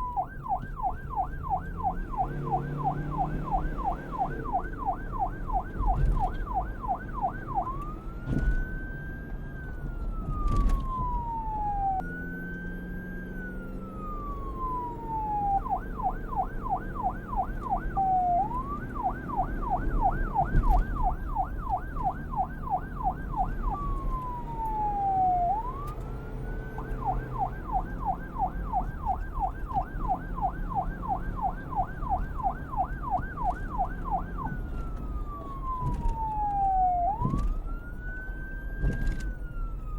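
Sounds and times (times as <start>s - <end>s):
police siren yelp and wail: 0.0s - 39.9s.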